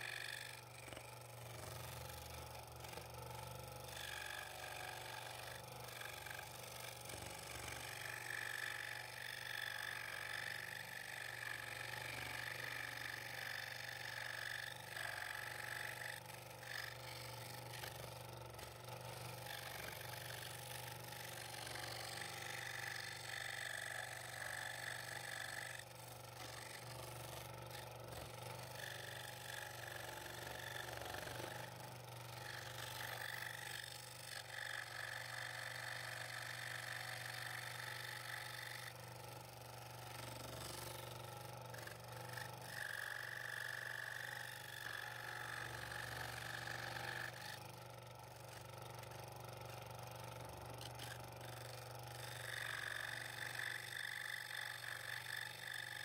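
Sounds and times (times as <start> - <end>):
motor hum: 0.0 - 56.0
scroll saw cutting wood: 0.0 - 56.0.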